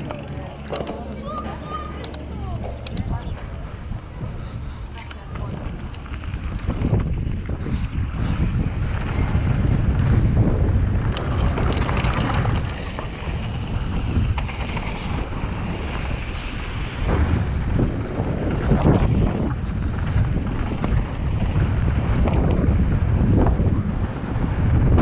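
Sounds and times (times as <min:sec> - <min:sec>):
bike rattling: 0:00.0 - 0:25.0
wind buffeting microphone: 0:00.0 - 0:25.0.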